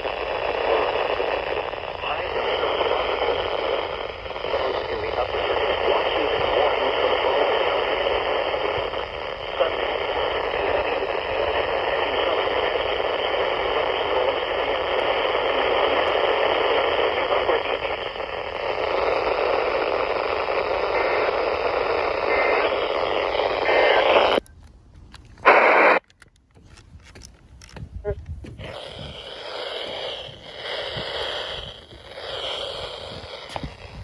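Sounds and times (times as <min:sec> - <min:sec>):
radio static hiss: 0:00.0 - 0:24.4, 0:25.4 - 0:26.1, 0:28.0 - 0:34.0.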